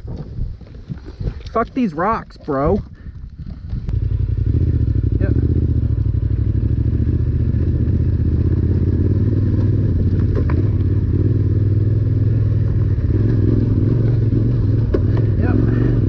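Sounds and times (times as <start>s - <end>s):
motorcycle engine running: 2.9s - 16.0s.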